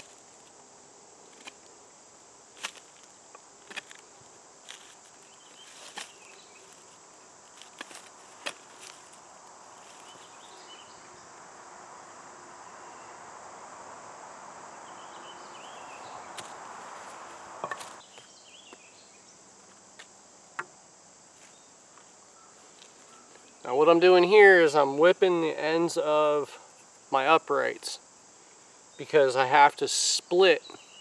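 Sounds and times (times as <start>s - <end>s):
crickets and insects chirping: 0.0s - 31.0s
soft rushing hiss: 0.0s - 31.0s.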